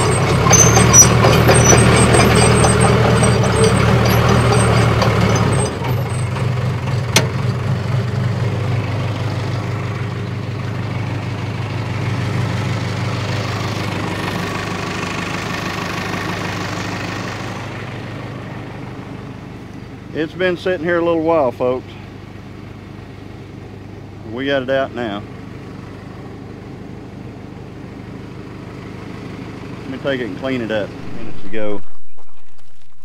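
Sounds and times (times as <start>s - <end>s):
bulldozer engine running: 0.0s - 33.0s.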